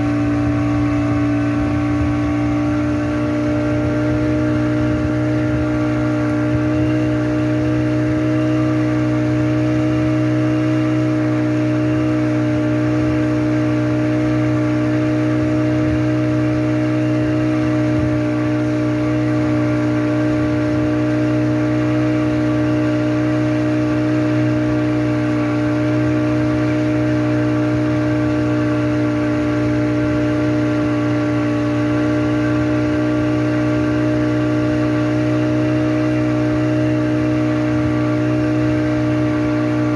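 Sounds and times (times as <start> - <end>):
speedboat engine droning: 0.0 - 39.9.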